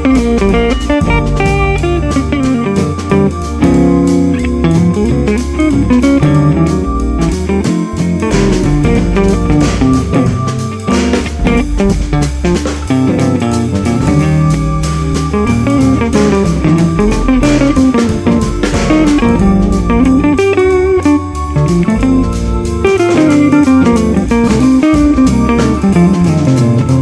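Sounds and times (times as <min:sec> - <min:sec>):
instrumental guitar and drums music: 0:00.0 - 0:27.0.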